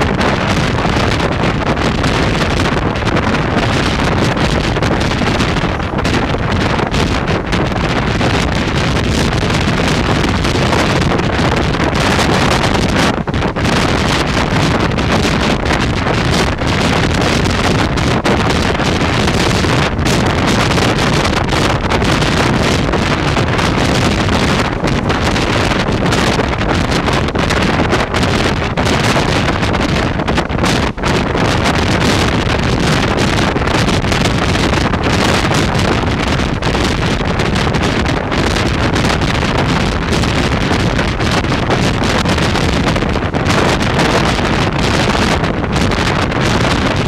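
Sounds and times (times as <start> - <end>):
train running on rails: 0.0 - 47.0
wind rushing over microphone: 0.0 - 47.0.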